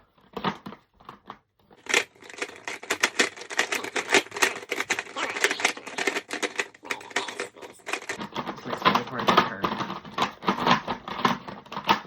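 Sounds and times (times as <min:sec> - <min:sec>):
plastic puzzle cube clicking: 0:01.8 - 0:12.0.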